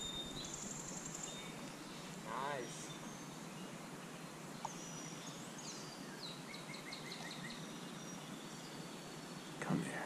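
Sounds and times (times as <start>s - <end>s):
outdoor hush: 0.0s - 10.0s
songbird singing: 0.0s - 10.0s.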